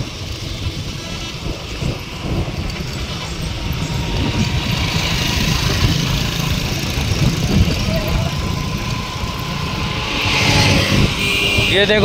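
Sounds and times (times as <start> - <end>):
scooter engine running: 0.0 - 12.0
wind rumbling on microphone: 0.0 - 12.0.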